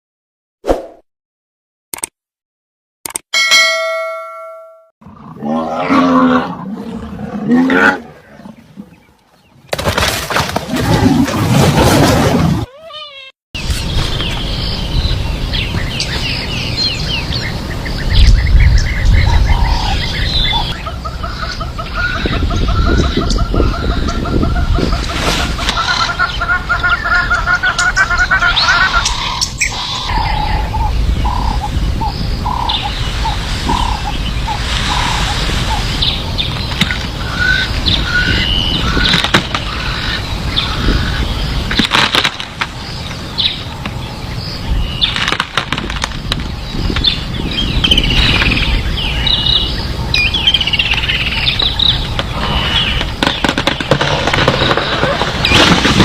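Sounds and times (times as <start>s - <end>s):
birds chirping: 6.2s - 9.8s, 12.9s - 55.8s.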